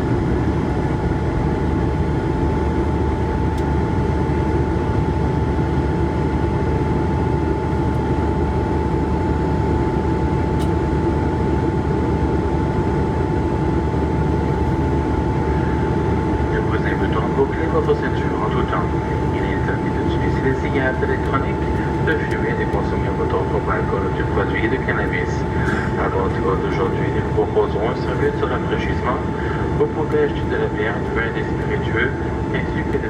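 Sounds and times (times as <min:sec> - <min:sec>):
constant high whine: 0:00.0 - 0:33.0
jet engine and airflow rush: 0:00.0 - 0:33.0.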